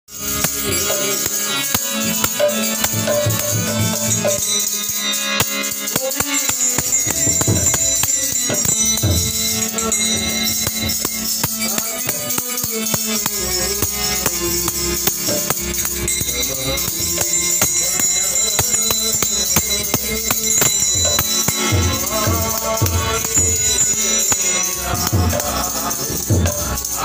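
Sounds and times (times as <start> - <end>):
harmonium chords: 0.1 - 27.0.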